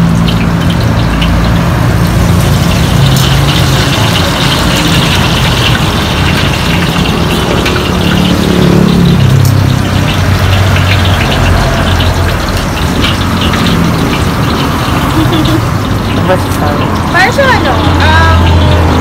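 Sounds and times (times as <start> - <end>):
car engines passing: 0.0 - 19.0
motorcycle engines passing: 0.0 - 19.0.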